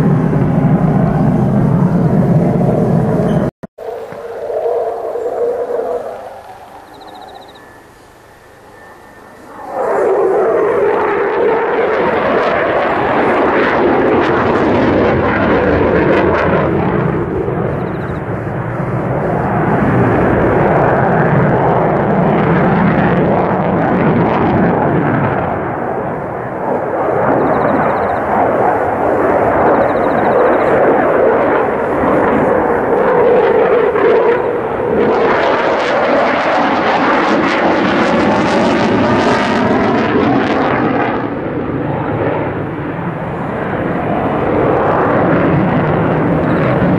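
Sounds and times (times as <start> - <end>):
fighter jet engine roar: 0.0 - 46.9.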